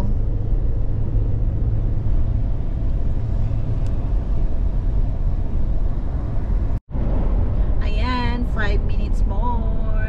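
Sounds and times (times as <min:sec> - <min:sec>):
road and engine rumble in car: 0:00.0 - 0:10.0.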